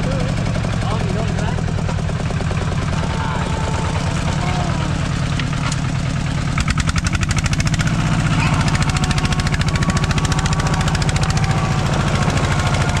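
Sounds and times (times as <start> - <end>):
vehicle engine thumping: 0.0 - 13.0.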